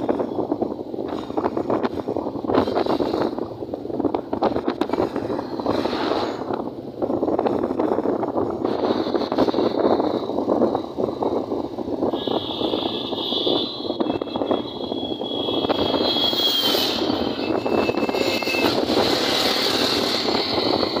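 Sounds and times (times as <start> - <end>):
vehicle road noise: 0.0 - 21.0
wind buffeting microphone: 0.0 - 21.0.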